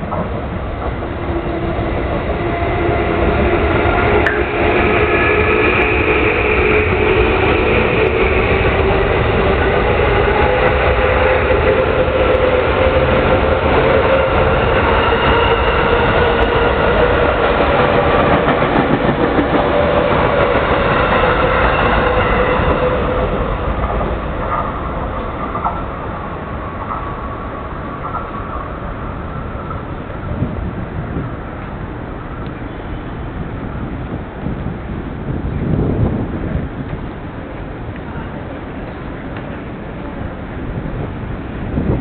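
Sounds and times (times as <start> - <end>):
electric train running past: 0.0 - 42.0.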